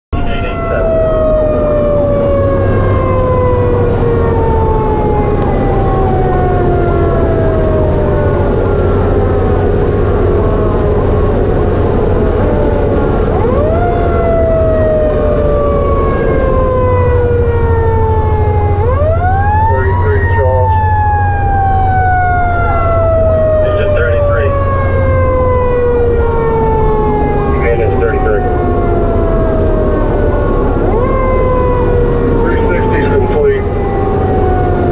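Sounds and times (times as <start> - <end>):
truck engine droning: 0.1 - 34.9
fire truck siren: 0.2 - 34.9.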